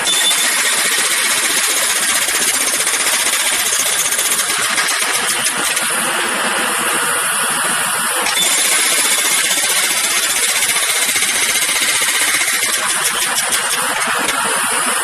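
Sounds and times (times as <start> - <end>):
jackhammer hammering: 0.0 - 15.0.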